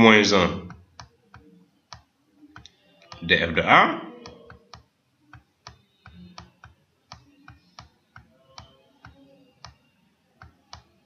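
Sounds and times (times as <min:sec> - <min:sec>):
computer mouse clicks: 0:00.7 - 0:03.2, 0:04.2 - 0:10.9.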